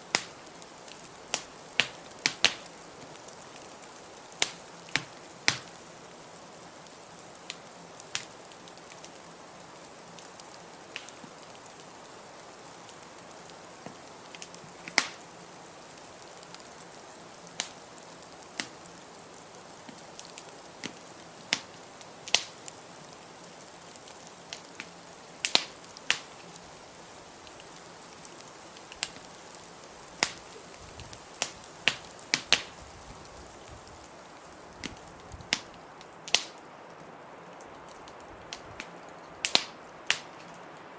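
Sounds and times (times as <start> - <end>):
soft steady hiss: 0.0 - 40.9
wood fire crackling: 0.0 - 40.9.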